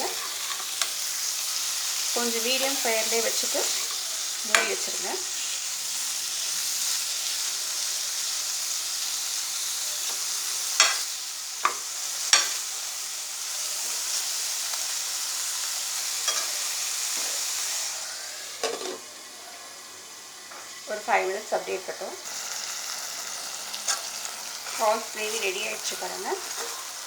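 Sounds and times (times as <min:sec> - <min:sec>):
prawns sizzling in a pan: 0:00.0 - 0:27.0.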